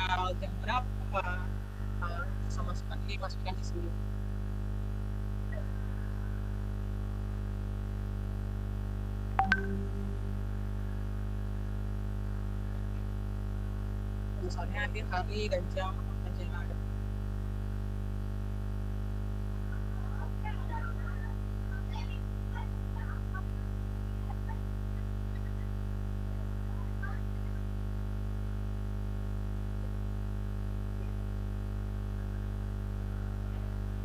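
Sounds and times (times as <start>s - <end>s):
electrical mains hum: 0.0s - 34.0s.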